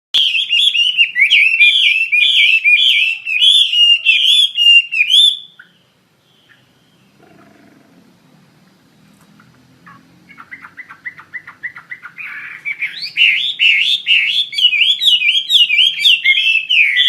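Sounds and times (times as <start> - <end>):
bird singing whistled notes: 0.2 - 7.2, 9.9 - 17.0.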